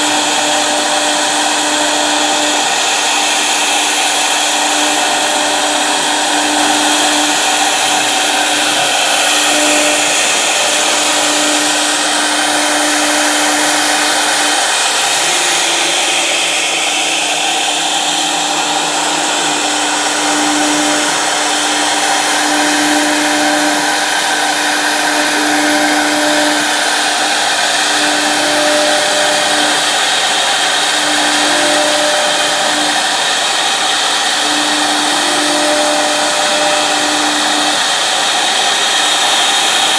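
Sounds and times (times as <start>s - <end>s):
cnc router spindle rushing: 0.0s - 39.9s.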